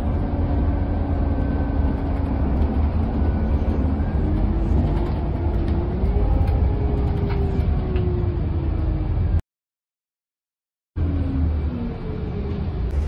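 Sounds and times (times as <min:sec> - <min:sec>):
bus engine and road rumble: 0:00.0 - 0:09.4, 0:11.0 - 0:13.0.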